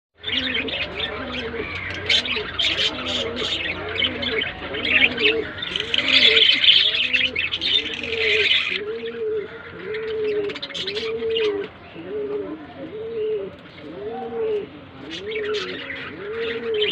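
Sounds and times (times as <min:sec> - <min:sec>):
pigeon cooing: 0:00.2 - 0:16.9.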